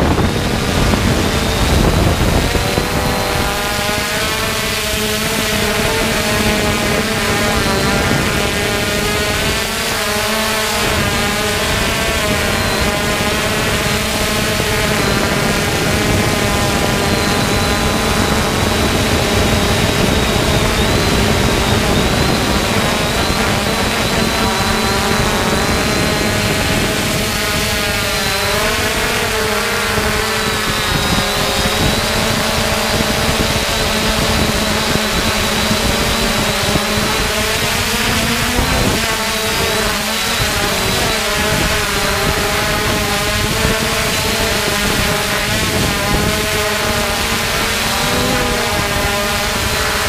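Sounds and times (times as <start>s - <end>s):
drone propellers whirring: 0.0s - 50.0s
thin high whine: 0.0s - 50.0s.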